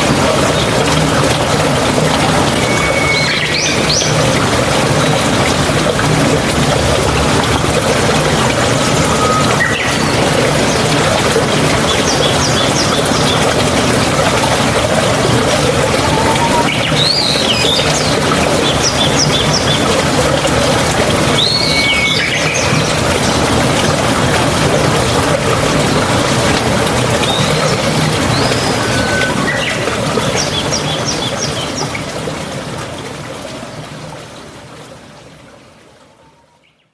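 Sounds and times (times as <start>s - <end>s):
running water rushing: 0.0s - 36.6s.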